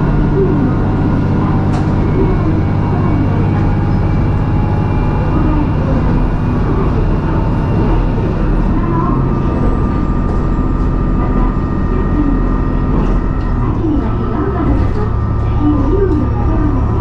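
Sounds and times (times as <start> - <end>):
diesel engine running: 0.0 - 17.0
wheels rumbling on rails: 0.0 - 17.0.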